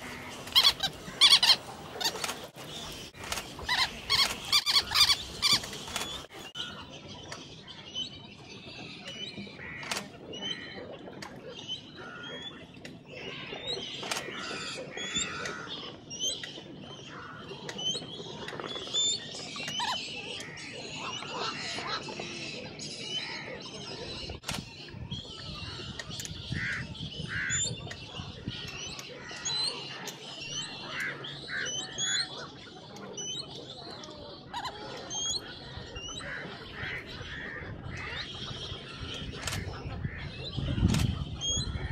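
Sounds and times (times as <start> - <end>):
terns calling: 0.0 - 7.4, 11.8 - 41.9.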